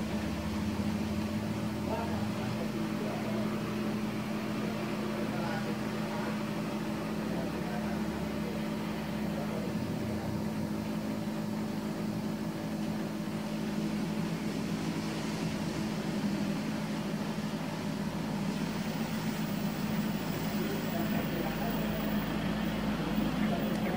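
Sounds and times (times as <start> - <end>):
low mechanical hum: 0.0 - 23.9.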